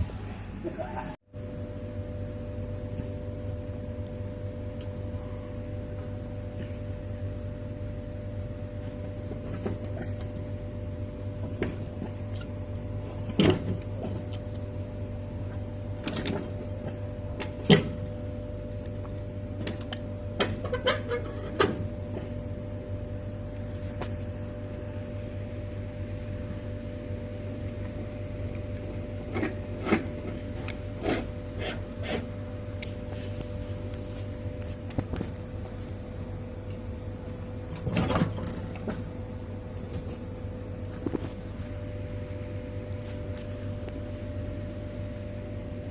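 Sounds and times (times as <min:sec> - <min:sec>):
low electrical hum: 0:00.0 - 0:45.9.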